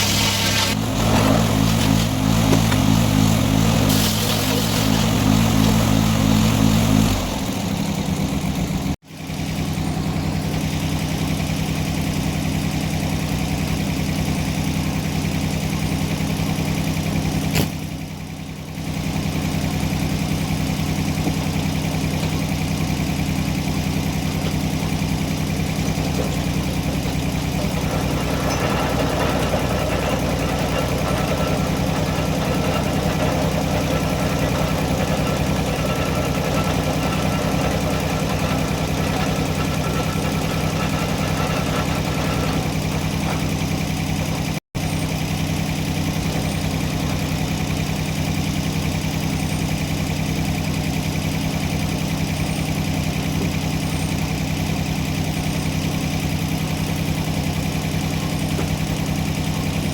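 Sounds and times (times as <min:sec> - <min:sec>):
engine revving down to idle: 0:00.0 - 0:59.9.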